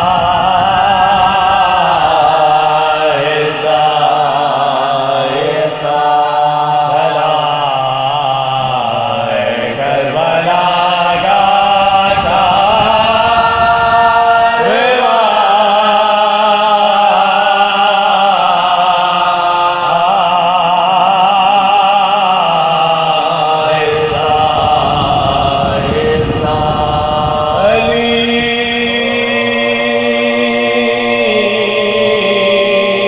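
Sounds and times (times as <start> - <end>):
man chanting a lament: 0.0 - 33.0.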